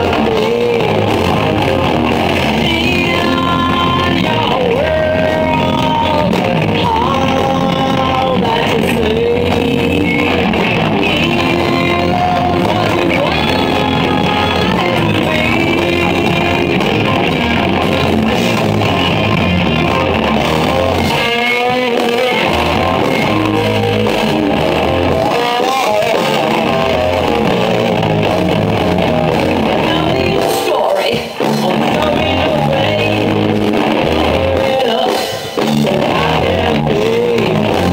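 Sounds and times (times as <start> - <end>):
bass guitar: 0.0 - 37.9
distorted electric guitars: 0.0 - 37.9
drum kit: 0.0 - 37.9.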